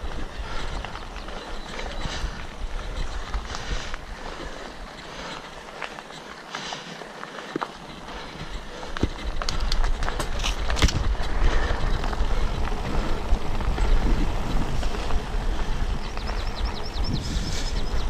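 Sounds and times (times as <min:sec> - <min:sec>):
wind rumble on microphone: 0:00.0 - 0:05.3, 0:08.0 - 0:18.0
bicycle tyres crunching on gravel: 0:00.0 - 0:18.0
bike rattling: 0:00.0 - 0:18.0.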